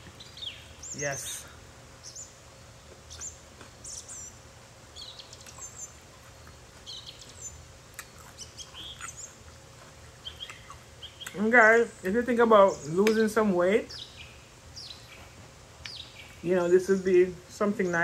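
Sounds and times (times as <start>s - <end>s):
low steady hum: 0.0s - 18.0s
small birds chirping: 0.0s - 18.0s.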